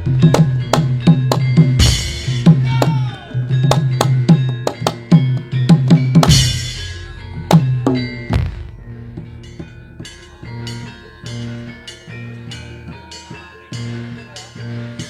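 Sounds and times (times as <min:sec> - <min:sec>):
ringing cymbal crash: 0:00.0 - 0:02.8, 0:03.4 - 0:15.0
drum-led dance music: 0:00.0 - 0:15.0.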